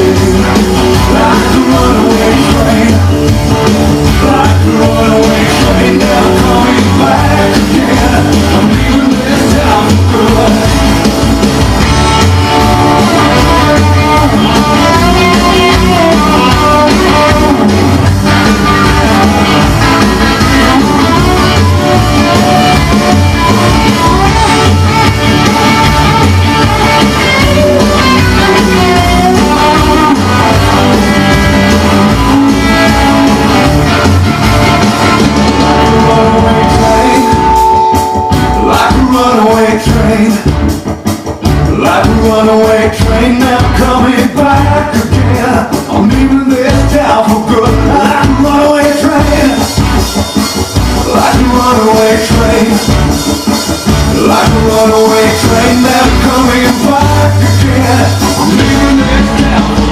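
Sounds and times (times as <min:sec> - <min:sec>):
rock and roll music with guitar: 0:00.0 - 0:59.9.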